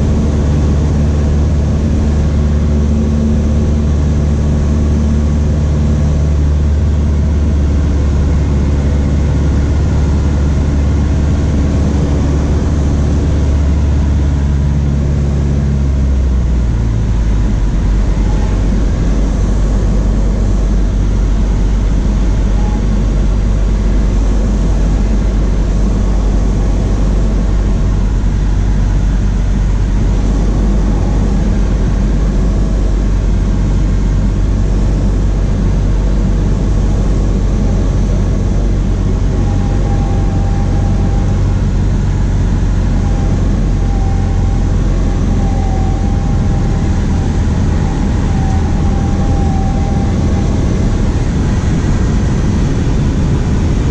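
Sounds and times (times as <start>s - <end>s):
propeller plane engine droning: 0.0s - 53.9s.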